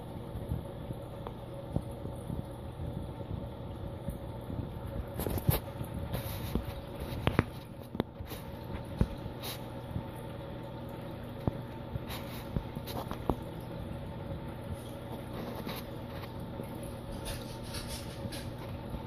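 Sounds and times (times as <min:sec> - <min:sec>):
aquarium pumps humming: 0:00.0 - 0:19.0.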